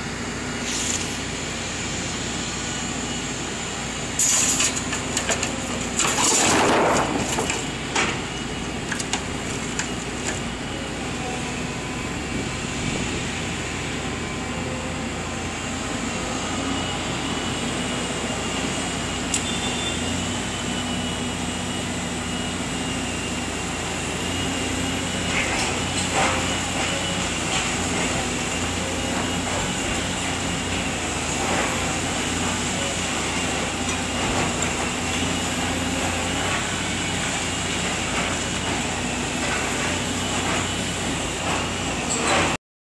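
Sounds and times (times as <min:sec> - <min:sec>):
excavator engine droning: 0:00.0 - 0:42.6
hydraulic whine: 0:00.0 - 0:42.6.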